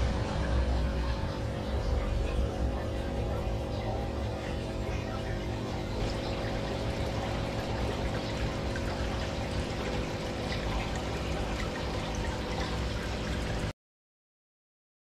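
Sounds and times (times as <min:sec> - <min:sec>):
pump hum: 0:00.0 - 0:13.7
water trickling into tank: 0:00.0 - 0:13.7.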